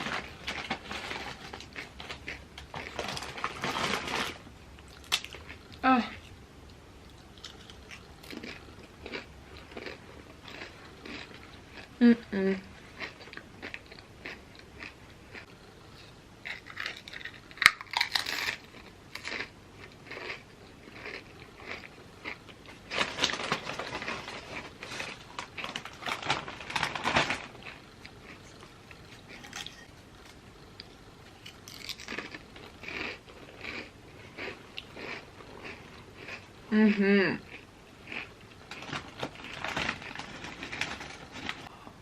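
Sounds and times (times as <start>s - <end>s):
person crunching chips: 0.0s - 6.4s, 7.0s - 12.0s, 16.4s - 36.4s, 37.4s - 41.7s.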